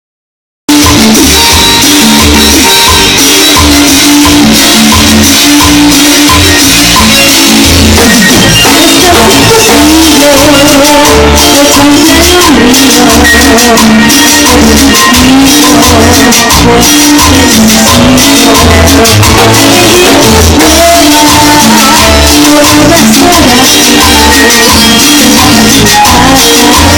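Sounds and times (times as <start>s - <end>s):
latin dance music: 0.6s - 26.9s.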